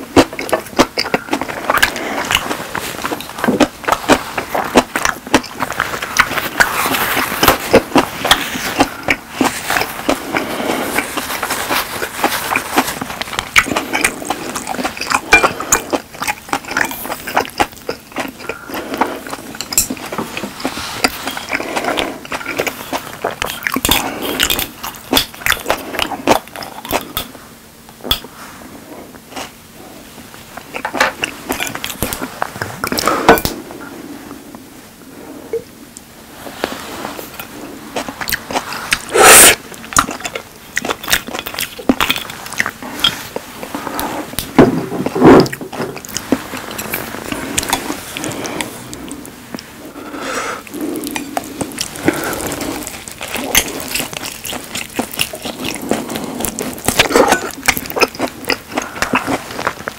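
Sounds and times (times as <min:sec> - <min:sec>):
wet chewing of meat: 0:00.0 - 0:27.4, 0:29.2 - 0:34.0, 0:36.6 - 0:59.9.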